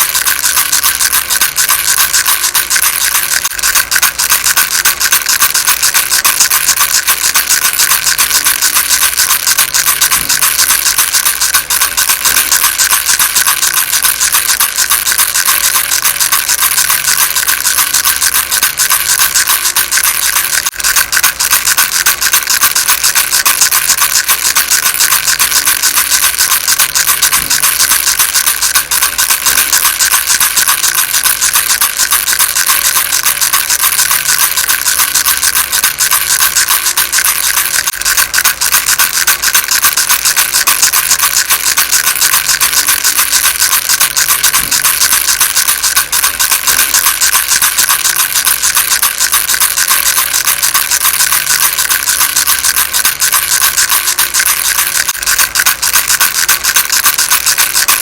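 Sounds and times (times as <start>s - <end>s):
baby rattle rattling: 0.0s - 58.0s.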